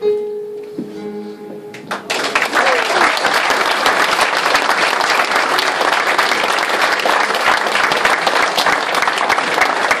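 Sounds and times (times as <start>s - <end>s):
audience clapping: 1.9s - 10.0s.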